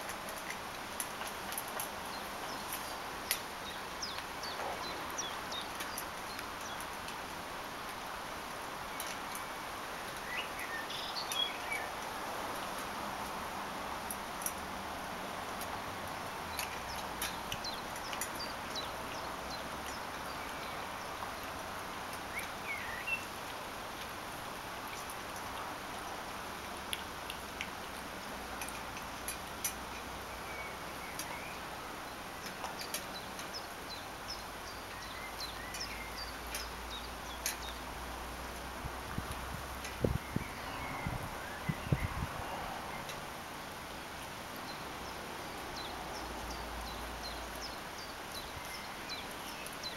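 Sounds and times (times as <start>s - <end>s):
outdoor hiss: 0.0s - 49.9s.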